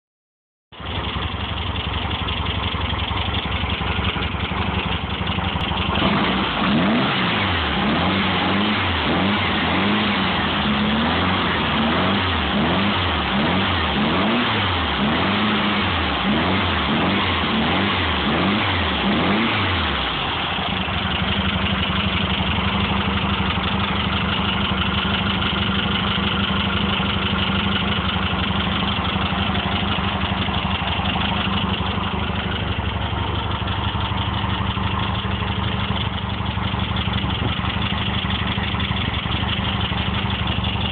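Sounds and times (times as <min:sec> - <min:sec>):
car engine idling and revving: 0:00.7 - 0:40.9.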